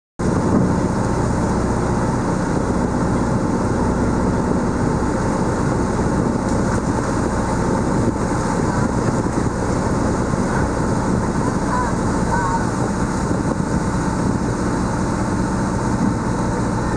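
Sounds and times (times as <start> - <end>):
boat engine drone: 0.2 - 16.9
water rushing: 0.2 - 16.9.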